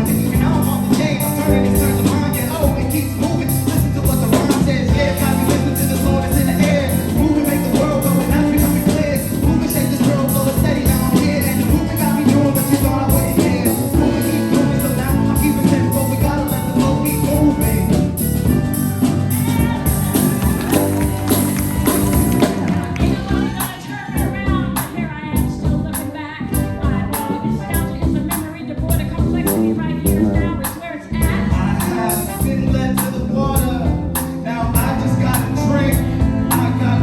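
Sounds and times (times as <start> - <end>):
live band playing: 0.0 - 37.0
person singing: 0.0 - 37.0.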